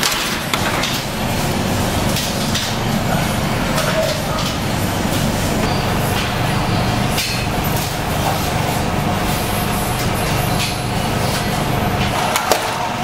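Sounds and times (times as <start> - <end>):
oven fan humming: 0.0 - 13.0.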